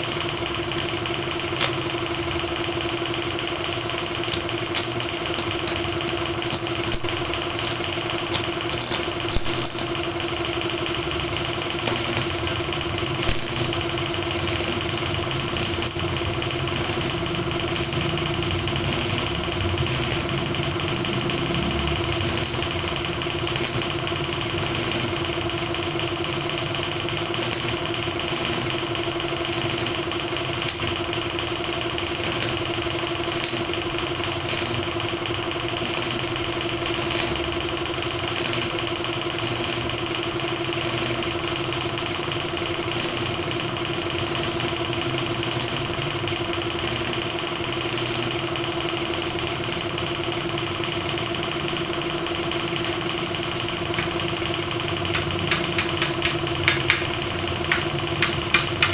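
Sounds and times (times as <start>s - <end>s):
motor running: 0.0s - 58.9s.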